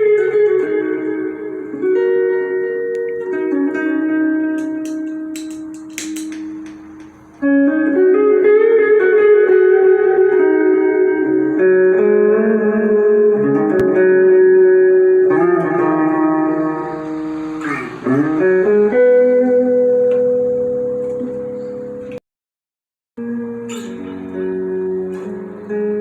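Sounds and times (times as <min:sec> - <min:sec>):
clean electric guitar chords: 0:00.0 - 0:22.2, 0:23.2 - 0:26.0.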